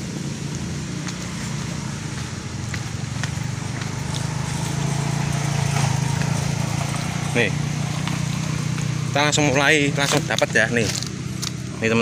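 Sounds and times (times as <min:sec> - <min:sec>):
small engine running: 0:00.7 - 0:12.0.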